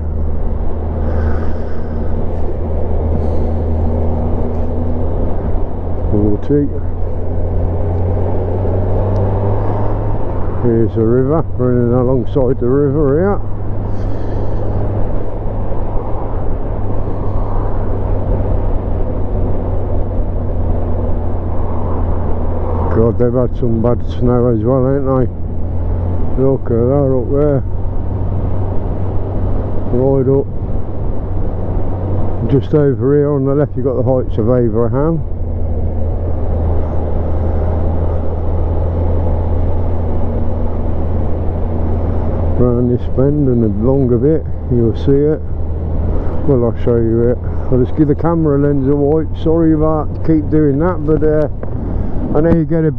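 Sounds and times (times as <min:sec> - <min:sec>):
wind noise: 0:00.0 - 0:24.5, 0:33.7 - 0:52.9
motorcycle engine drone: 0:00.0 - 0:52.9
road noise: 0:00.0 - 0:52.9.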